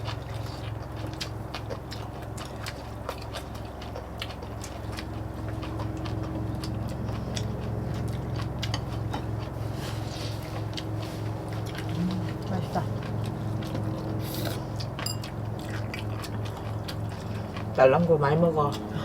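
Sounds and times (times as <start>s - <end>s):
people chewing: 0.0s - 19.0s
pulsing low hum: 0.0s - 19.0s.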